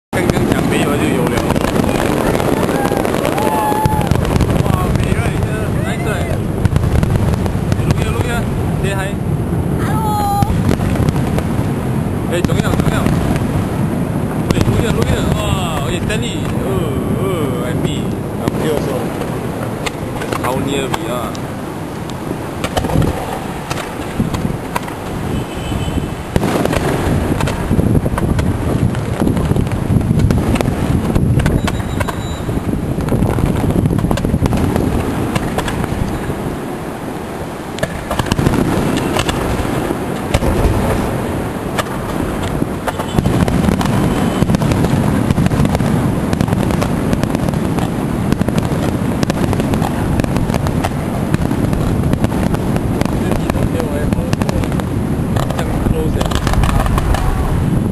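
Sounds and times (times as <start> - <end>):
fireworks popping and crackling: 0.1 - 57.9.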